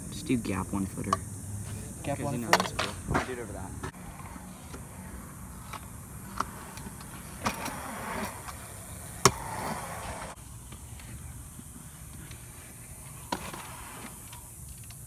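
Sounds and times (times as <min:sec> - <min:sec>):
scooter wheels rolling: 0:00.4 - 0:15.0.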